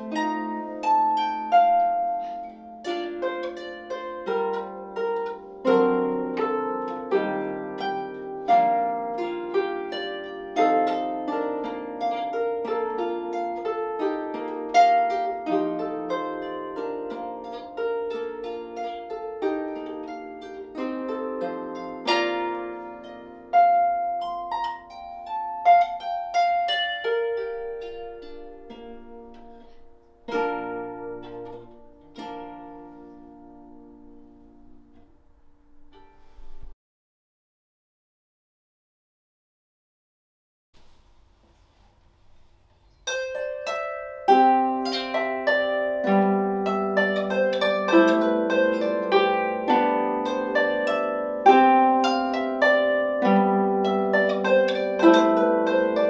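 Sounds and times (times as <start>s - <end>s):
harp plucked melody: 0.0s - 36.7s, 42.2s - 56.0s.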